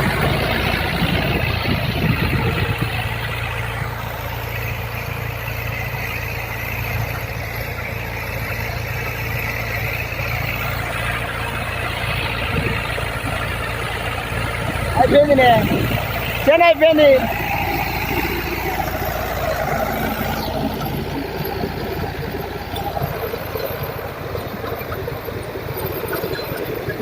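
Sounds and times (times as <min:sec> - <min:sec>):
tractor engine under load: 0:00.0 - 0:27.0.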